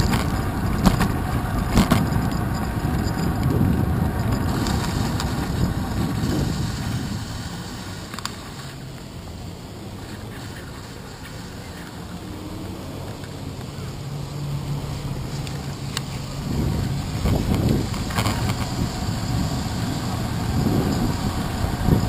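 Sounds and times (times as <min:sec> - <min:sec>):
bicycle tyre noise on wet pavement: 0:00.0 - 0:22.0
passing car traffic: 0:00.0 - 0:22.0.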